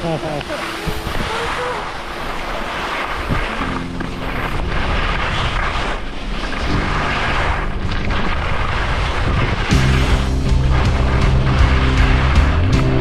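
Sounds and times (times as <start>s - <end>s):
low steady tones: 0.0s - 13.0s
wind rushing over microphone: 0.0s - 13.0s.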